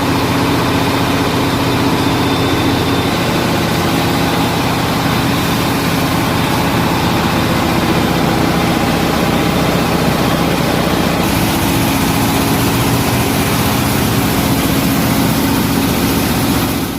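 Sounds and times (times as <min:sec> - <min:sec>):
rice huller engine drone: 0:00.0 - 0:16.9.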